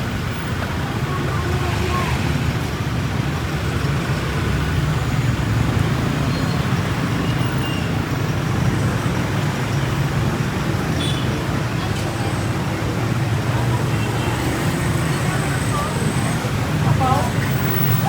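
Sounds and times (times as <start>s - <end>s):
low rumble of vehicle engines: 0.0s - 18.0s.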